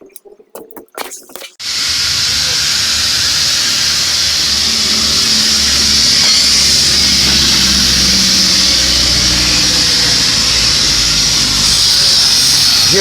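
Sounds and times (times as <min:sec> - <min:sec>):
engine rumbling: 0:01.6 - 0:13.0
high hiss: 0:01.6 - 0:13.0.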